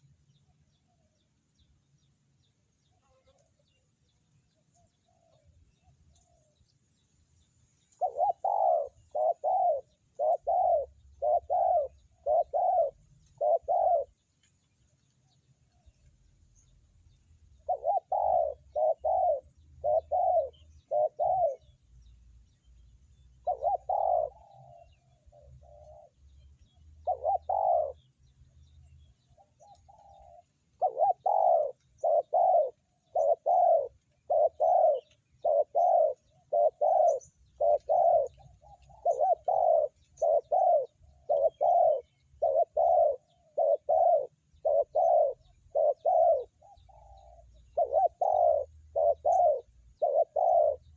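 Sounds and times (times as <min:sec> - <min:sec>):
dove cooing: 0:04.7 - 0:06.6, 0:07.8 - 0:14.3, 0:17.4 - 0:22.2, 0:22.8 - 0:50.9.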